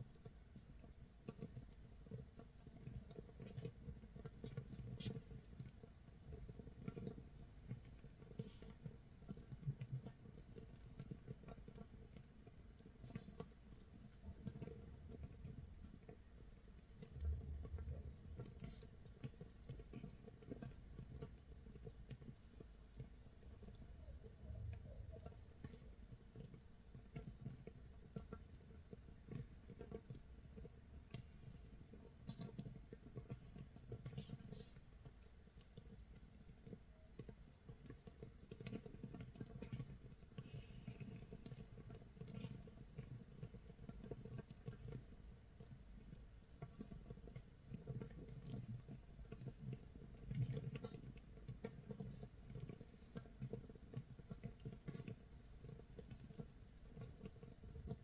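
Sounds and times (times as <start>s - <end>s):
fermenting mash bubbles popping: 0.0s - 58.0s.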